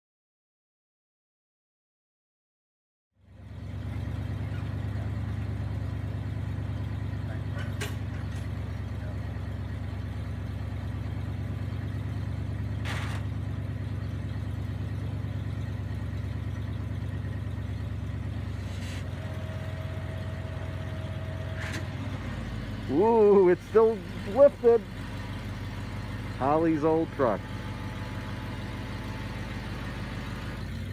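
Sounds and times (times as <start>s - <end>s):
truck engine idling: 3.2s - 30.9s.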